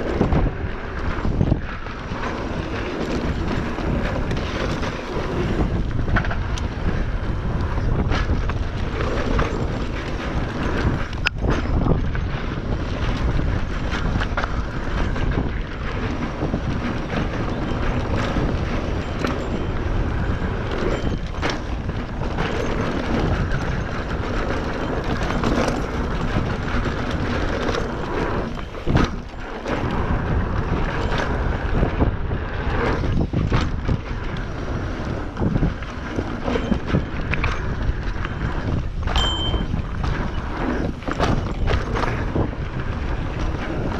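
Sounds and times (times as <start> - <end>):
bike tyres on dirt trail: 0.0 - 43.9
wind buffeting microphone: 0.0 - 43.9.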